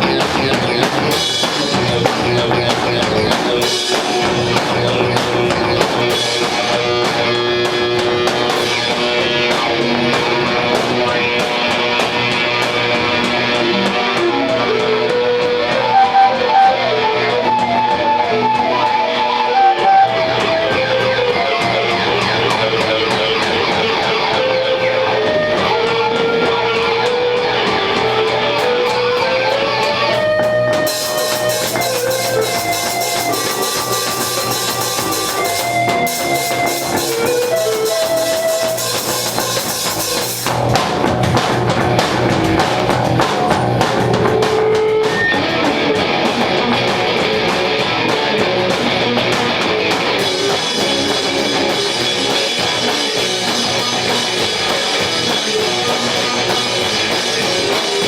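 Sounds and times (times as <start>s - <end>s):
drum hits: 0.0s - 14.3s, 20.4s - 58.0s
electric guitar melody: 0.0s - 58.0s
rock band playing live: 0.0s - 58.0s.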